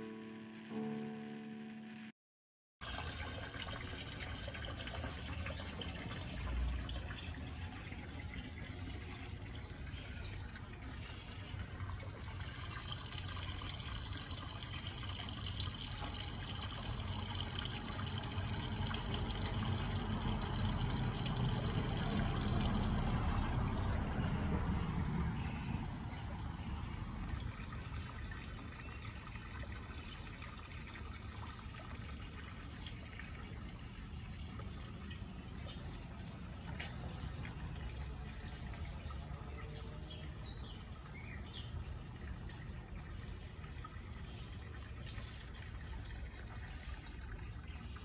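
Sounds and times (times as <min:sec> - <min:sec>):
water splashing into pond: 0:02.8 - 0:48.0.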